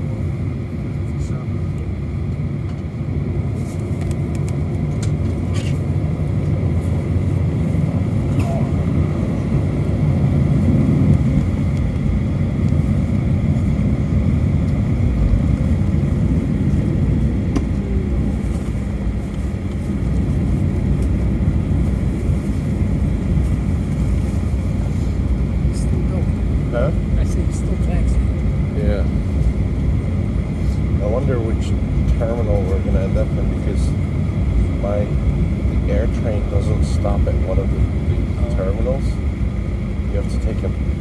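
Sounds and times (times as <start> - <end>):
aircraft cabin low rumble: 0.0 - 41.0.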